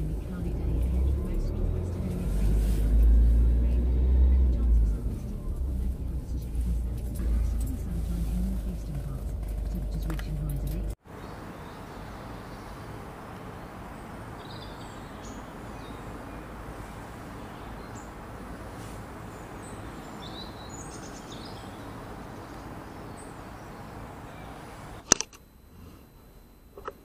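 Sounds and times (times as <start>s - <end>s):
small birds chirping: 0.0s - 25.1s
steady outdoor hiss: 0.0s - 27.0s.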